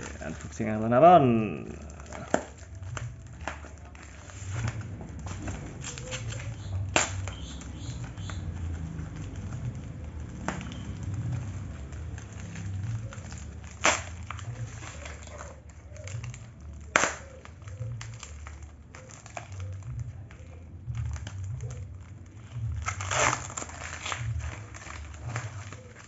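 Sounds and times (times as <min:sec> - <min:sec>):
packaging crackling and rustling: 0:00.0 - 0:26.0.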